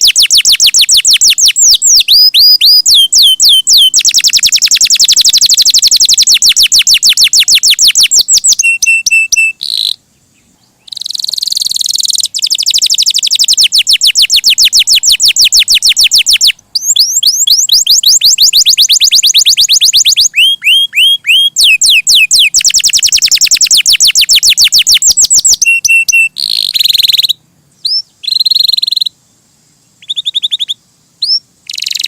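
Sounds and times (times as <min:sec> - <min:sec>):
canary singing trills: 0:00.0 - 0:32.0.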